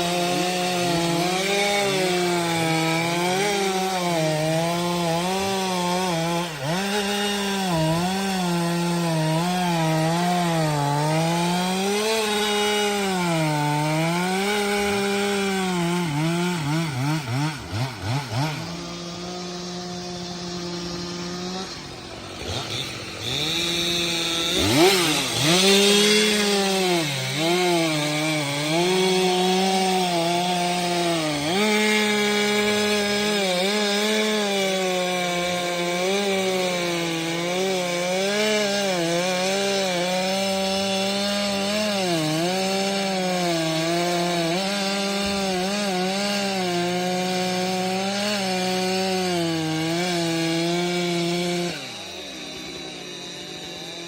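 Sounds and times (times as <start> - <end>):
chainsaw cutting wood: 0.0 - 54.0
chainsaw throttle blips: 0.0 - 54.0.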